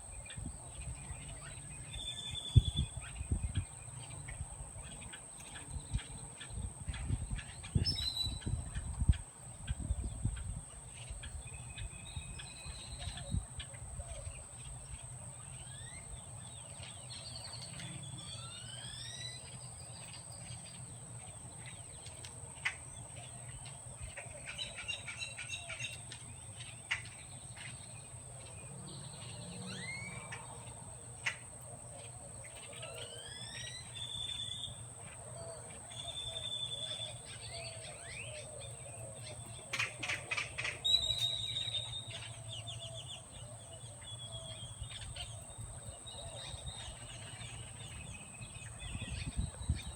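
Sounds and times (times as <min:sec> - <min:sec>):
birds chirping: 0:00.0 - 0:49.9
outdoor background noise: 0:00.0 - 0:49.9.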